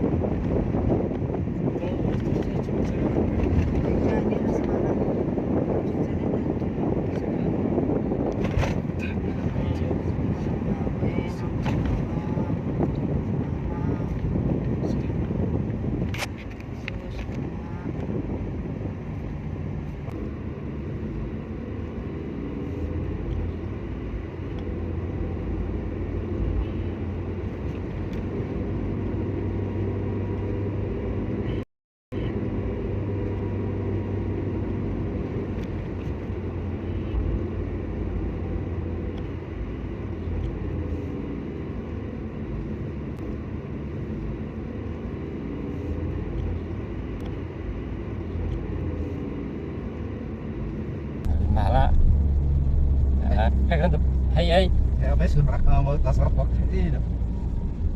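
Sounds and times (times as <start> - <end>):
car engine and road rumble: 0.0 - 57.9.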